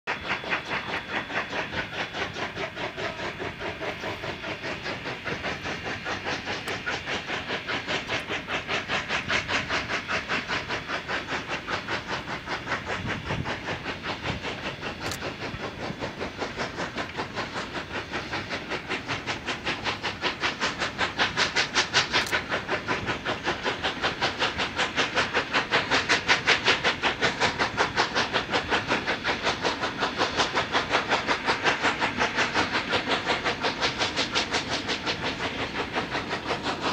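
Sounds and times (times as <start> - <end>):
steam locomotive exhaust chuffing: 0.1 - 36.9.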